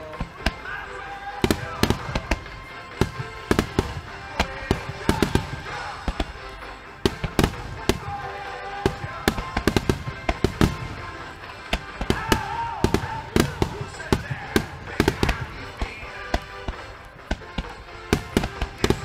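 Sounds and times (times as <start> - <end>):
firework shells bursting: 0.0 - 19.0.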